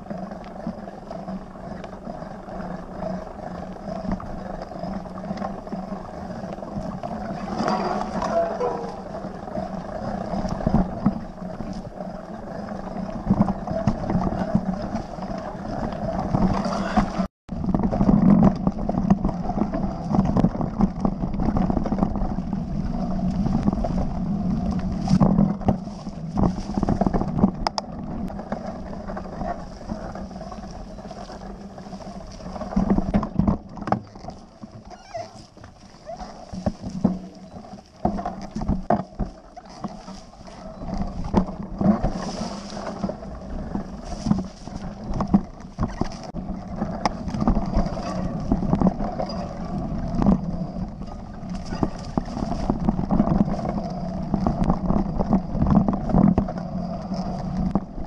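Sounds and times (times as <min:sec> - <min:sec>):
tyre and trail noise: 0:00.0 - 0:58.0
bike knocks and rattles: 0:02.4 - 0:58.0
wind on the microphone: 0:02.9 - 0:58.0.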